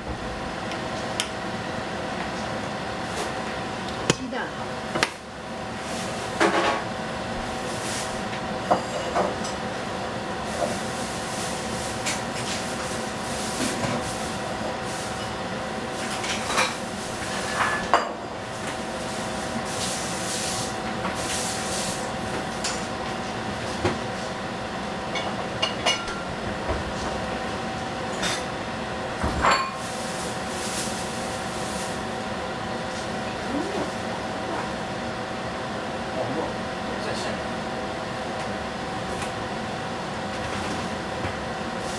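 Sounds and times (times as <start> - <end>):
fan-like hum: 0.0 - 41.9.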